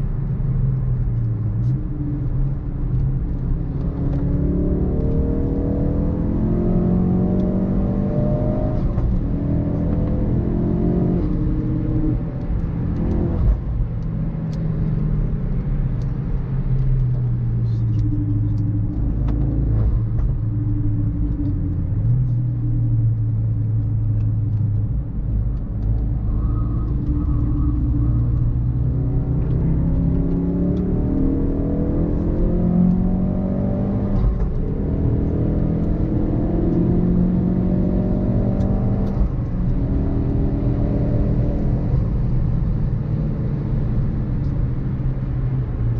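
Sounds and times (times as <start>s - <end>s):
car engine accelerating through gears: 0.0s - 45.9s.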